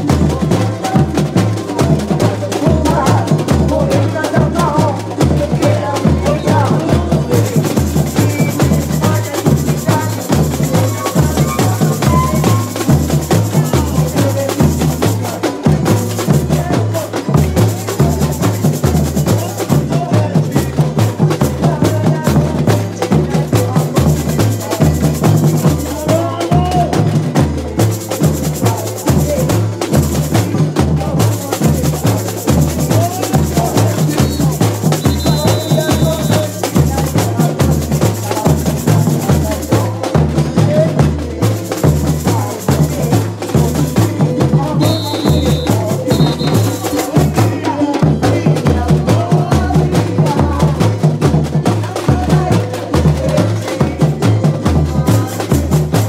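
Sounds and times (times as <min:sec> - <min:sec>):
clacking percussion: 0:00.0 - 0:56.0
snare drums rattling: 0:00.0 - 0:56.0.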